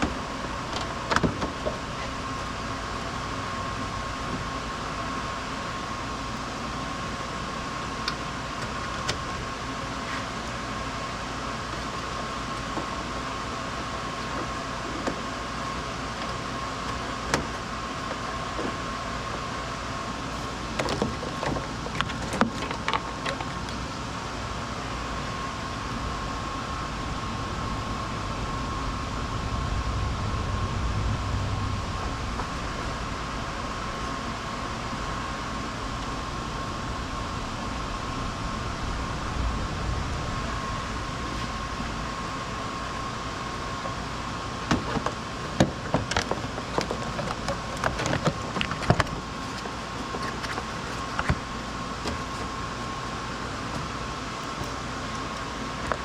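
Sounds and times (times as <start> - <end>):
steady mechanical hum: 0.0 - 56.0
thin steady whine: 0.0 - 56.0.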